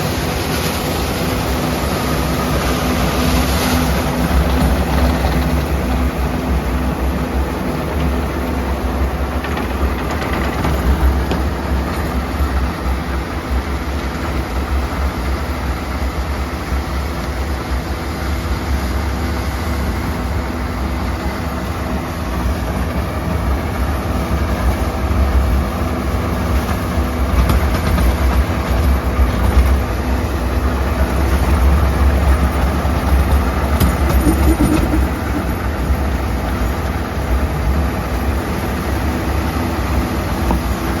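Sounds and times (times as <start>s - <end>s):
tractor diesel engine rumbling: 0.0s - 41.0s.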